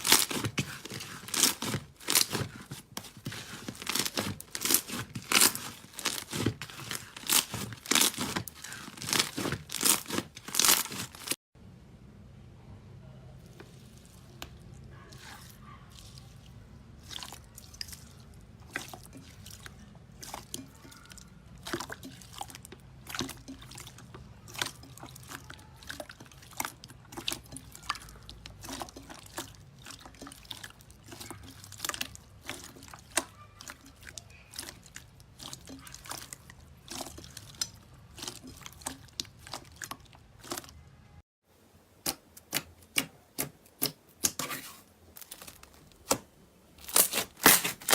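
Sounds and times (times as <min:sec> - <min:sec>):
slime squishing with wet pops: 0:00.0 - 0:11.4, 0:13.6 - 0:40.8, 0:42.0 - 0:44.5, 0:45.2 - 0:47.9.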